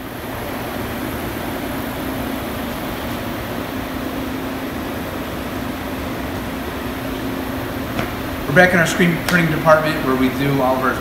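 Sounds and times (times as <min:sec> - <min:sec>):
shop machinery humming: 0:00.0 - 0:11.0.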